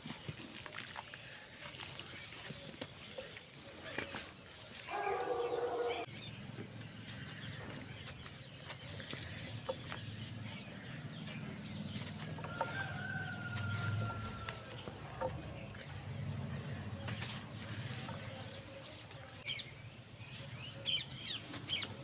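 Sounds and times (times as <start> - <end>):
dry dirt crackling: 0.0 - 22.0.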